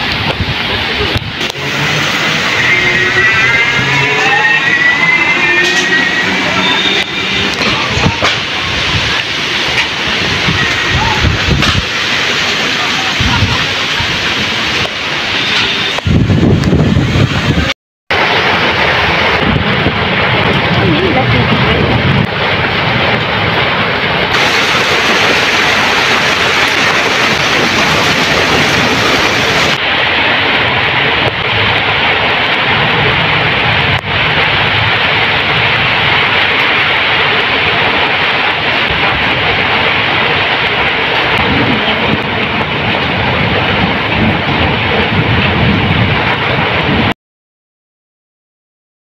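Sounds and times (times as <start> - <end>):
wind gusts buffeting microphone: 0.0 - 4.2, 4.8 - 47.1
storm wind rushing through trees: 0.0 - 47.1.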